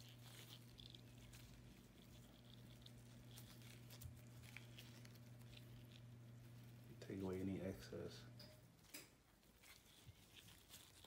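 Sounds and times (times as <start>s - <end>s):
low steady hum: 0.0s - 11.0s
soft rustles of dough folding: 0.0s - 11.0s.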